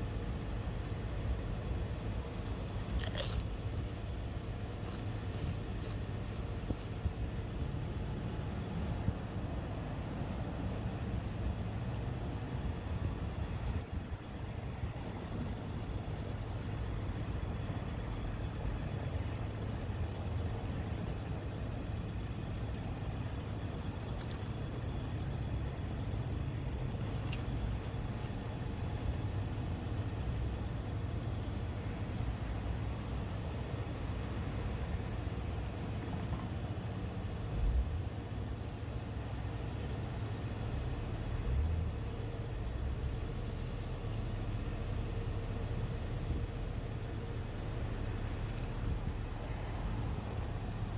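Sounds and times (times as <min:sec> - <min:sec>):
steady low rumble: 0:00.0 - 0:50.9.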